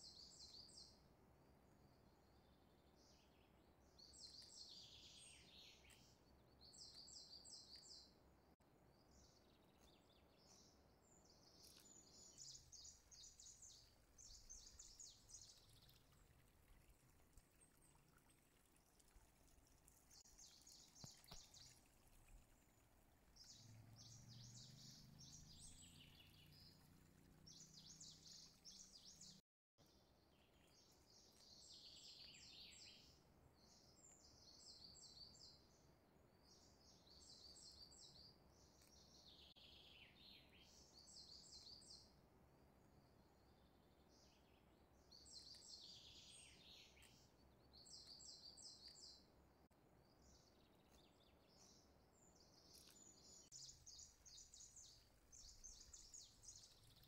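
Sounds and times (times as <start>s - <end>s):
faint birdsong chirps and trills: 0.0s - 57.0s.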